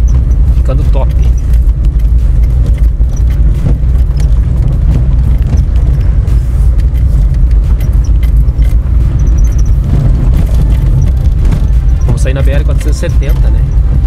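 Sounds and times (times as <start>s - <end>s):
vehicle rumbling on dirt road: 0.0s - 14.0s.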